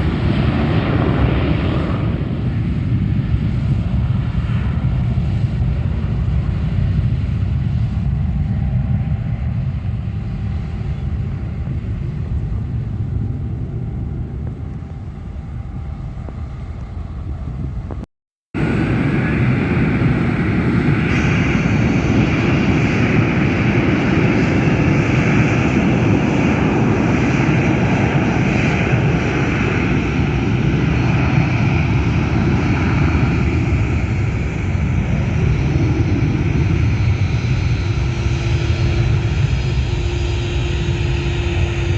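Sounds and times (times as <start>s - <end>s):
high engine whine: 0.0s - 41.9s
jet engine rumble: 0.0s - 41.9s.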